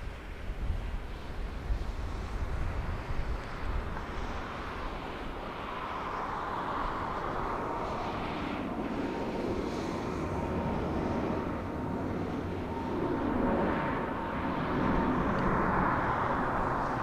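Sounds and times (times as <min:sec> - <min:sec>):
jet airliner roar: 0:00.0 - 0:17.0
steady fan whine: 0:00.0 - 0:17.0.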